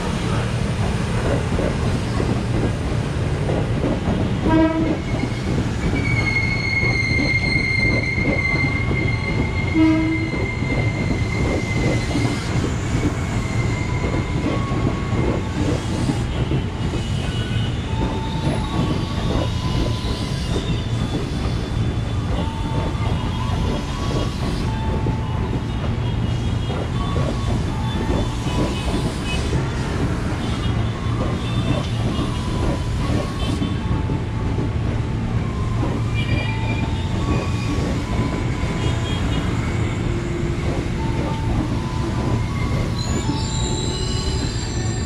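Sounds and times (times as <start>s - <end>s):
train wheels rumbling on track: 0.0s - 45.0s
high wheel squeal: 4.5s - 34.4s, 35.3s - 45.0s.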